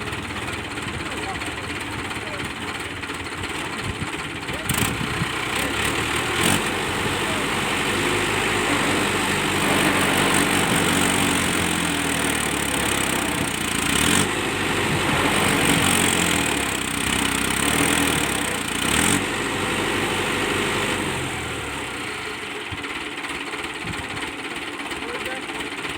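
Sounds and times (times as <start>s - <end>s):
tractor diesel engine revving: 0.0s - 25.9s.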